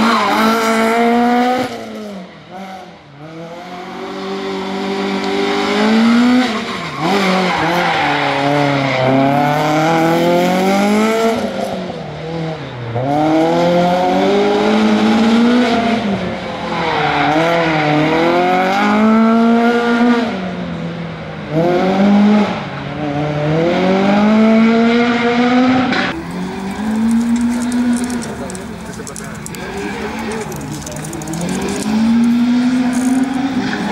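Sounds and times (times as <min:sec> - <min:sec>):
rally car engine revving: 0:00.0 - 0:20.6, 0:21.4 - 0:33.9.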